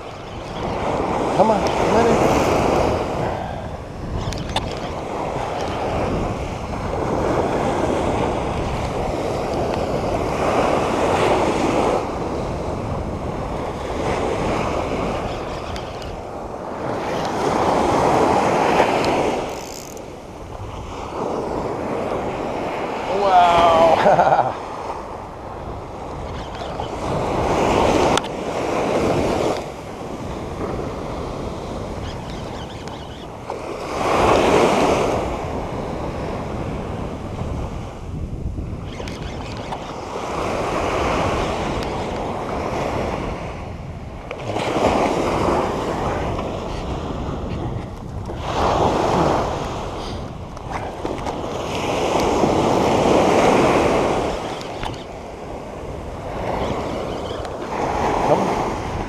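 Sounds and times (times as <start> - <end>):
ocean surf breaking on sand: 0.0 - 4.2, 4.9 - 32.1, 33.3 - 38.8, 39.9 - 59.0
wind rumbling on microphone: 0.0 - 59.0.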